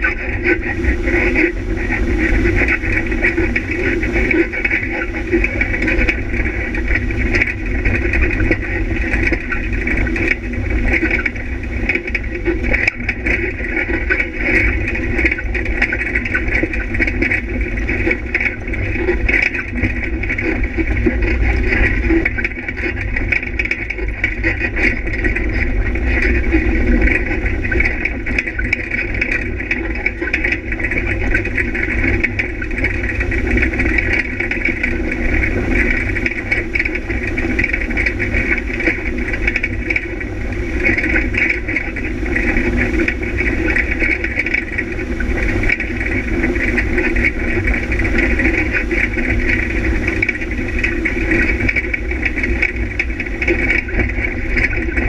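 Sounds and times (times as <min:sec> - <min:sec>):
low rumble on dirt track: 0:00.0 - 0:55.0
off-road vehicle engine running: 0:00.0 - 0:55.0.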